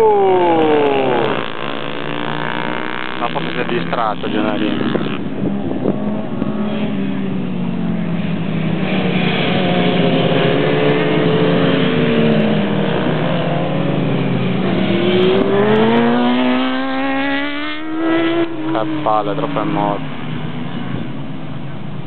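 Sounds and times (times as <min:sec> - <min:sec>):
pit bike engines racing: 0:00.0 - 0:22.0.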